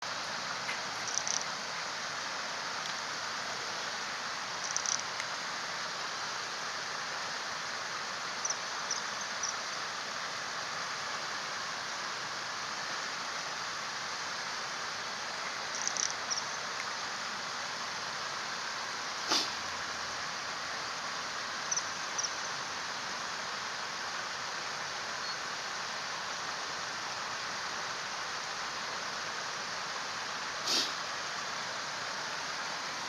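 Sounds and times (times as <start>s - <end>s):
stream rushing: 0.1s - 33.0s.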